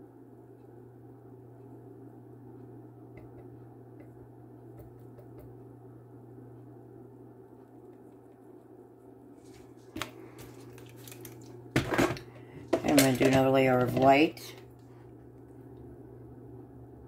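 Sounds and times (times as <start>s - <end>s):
low hum of room tone: 0.0s - 17.0s.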